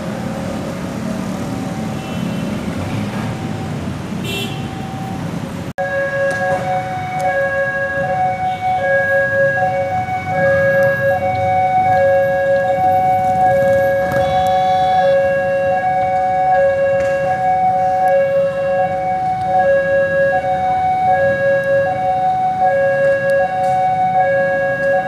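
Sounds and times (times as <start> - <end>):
road traffic rumble: 0.0 - 25.0
two-tone crossing alarm: 3.3 - 5.2, 5.8 - 25.0.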